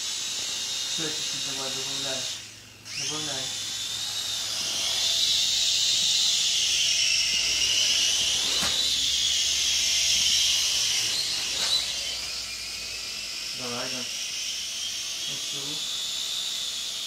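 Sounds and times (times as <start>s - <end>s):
toy drone buzzing whine: 0.0s - 17.0s.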